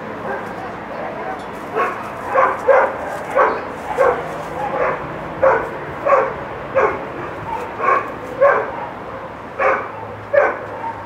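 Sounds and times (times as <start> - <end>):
dog barking: 0.2 - 11.0.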